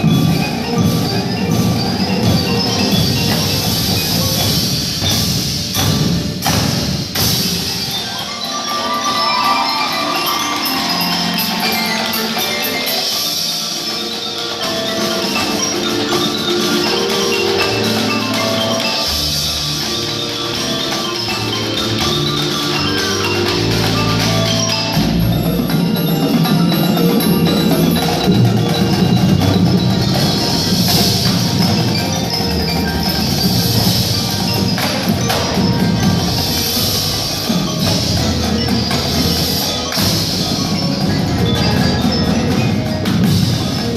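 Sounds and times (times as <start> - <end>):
chimes: 0.0 - 43.9
mallet percussion: 0.0 - 43.9.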